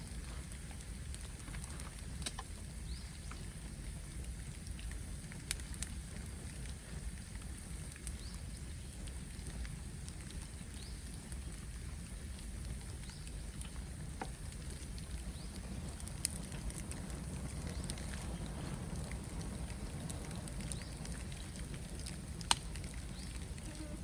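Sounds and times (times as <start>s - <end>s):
bonfire flames rushing: 0.0s - 24.0s
fire crackling: 0.0s - 24.0s.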